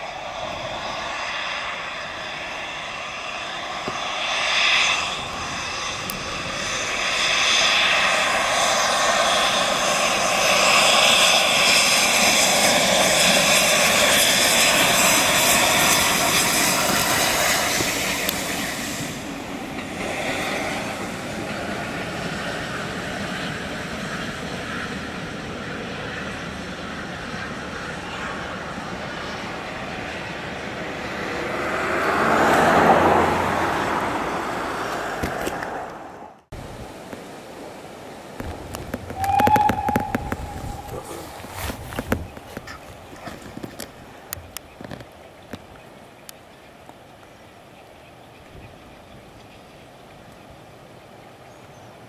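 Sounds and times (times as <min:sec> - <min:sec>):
steam locomotive passing: 0:00.0 - 0:52.0.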